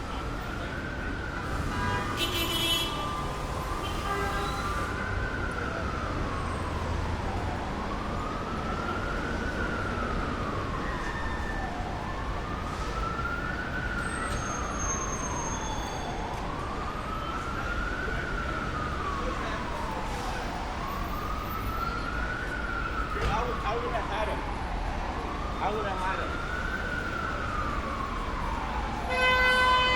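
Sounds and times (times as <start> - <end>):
emergency siren wailing: 0.0 - 29.9
street traffic rumble: 0.0 - 29.9.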